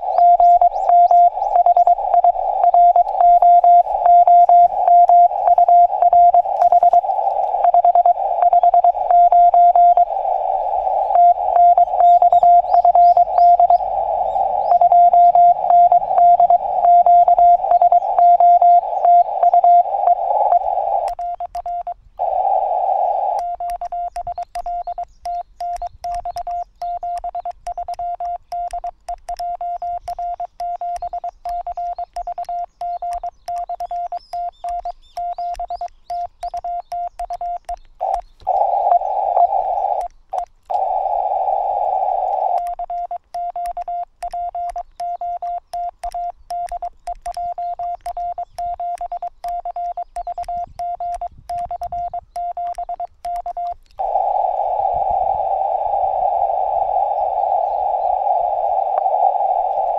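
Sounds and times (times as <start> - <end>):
static hiss: 0.0 - 29.4, 30.0 - 59.9
morse code tones: 0.0 - 59.9.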